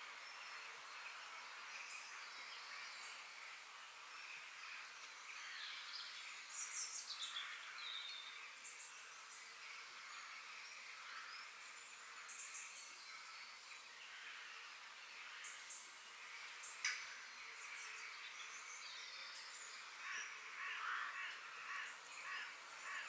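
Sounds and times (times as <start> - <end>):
birds chirping: 0.1 - 23.0.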